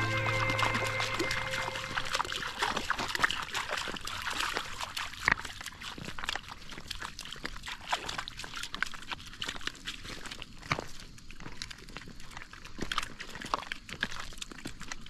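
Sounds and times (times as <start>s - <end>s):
dog splashing in river: 0.0s - 14.7s
water trickling and sloshing: 0.0s - 15.0s.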